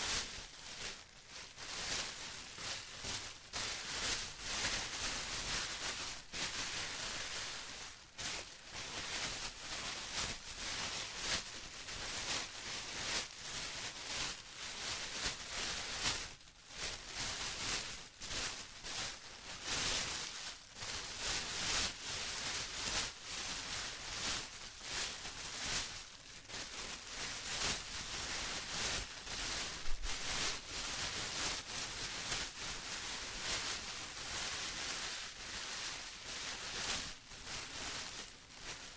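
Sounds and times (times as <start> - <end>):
plastic crinkling: 0.0 - 38.9.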